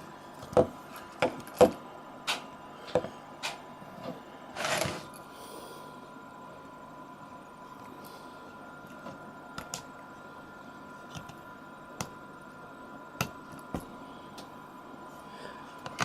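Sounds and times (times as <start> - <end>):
faint electrical whine: 0.0 - 16.0.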